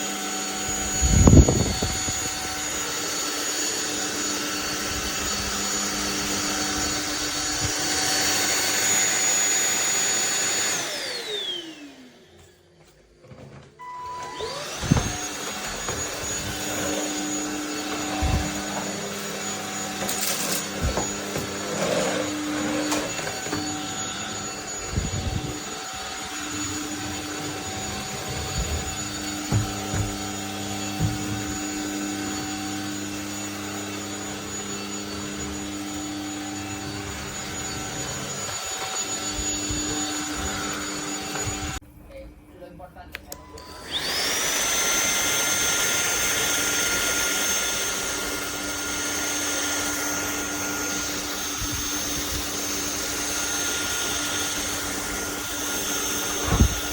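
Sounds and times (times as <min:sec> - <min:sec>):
vacuum cleaner motor whine: 0:00.0 - 0:41.8, 0:43.1 - 0:56.9.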